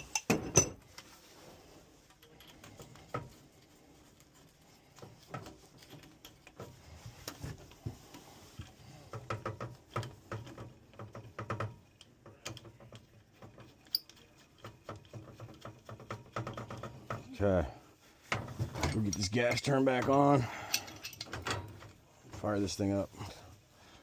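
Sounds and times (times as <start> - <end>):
hand tools clicking and knocking: 0.0 - 1.1, 2.0 - 17.4, 18.2 - 22.5
metal pipe fittings handled: 0.0 - 17.3, 18.2 - 22.8.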